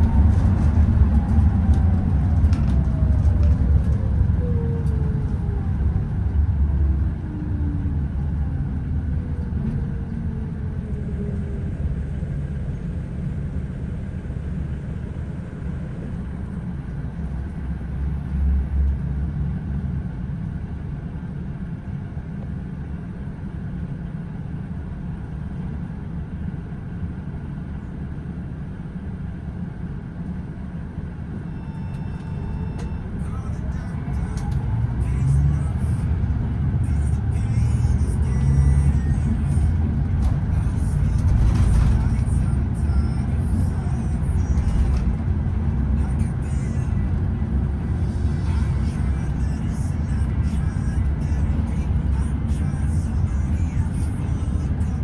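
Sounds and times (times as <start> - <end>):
coach engine rumbling: 0.0 - 55.0.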